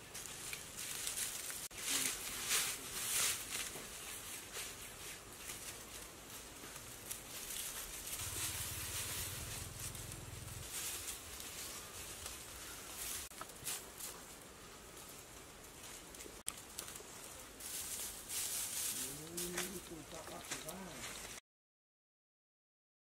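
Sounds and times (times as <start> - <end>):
footsteps on dry leaves: 0.0 - 14.4, 15.8 - 21.4
dry grass panels rustling: 0.0 - 21.4.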